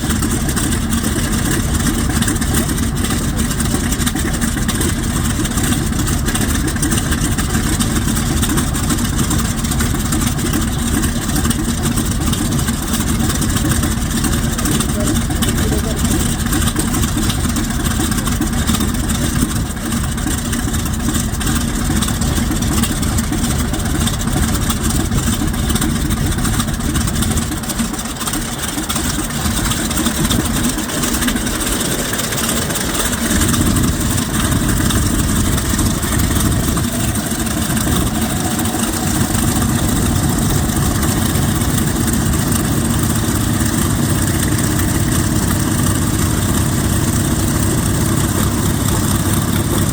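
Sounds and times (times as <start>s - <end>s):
radial aircraft engine running: 0.0s - 49.9s.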